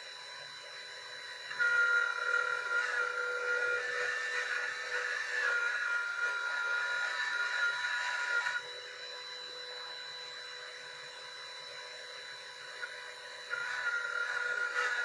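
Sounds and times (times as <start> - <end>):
router spindle whining: 0.0 - 15.0
router bit cutting board: 1.4 - 15.0.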